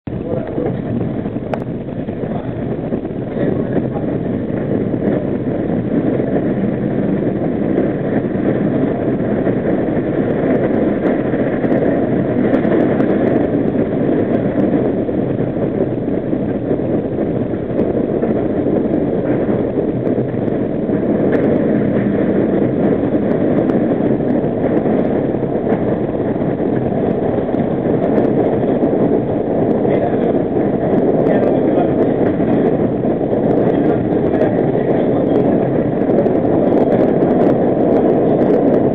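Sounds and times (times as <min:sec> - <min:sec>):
subway car rumbling: 0:00.0 - 0:38.9.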